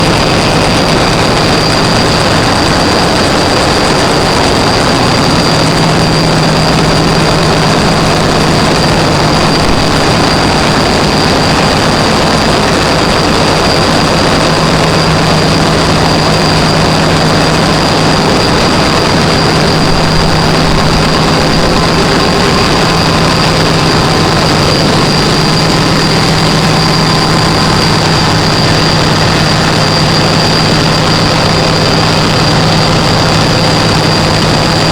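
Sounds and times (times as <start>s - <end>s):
generator engine running: 0.0s - 34.9s
high steady whine: 0.0s - 34.9s.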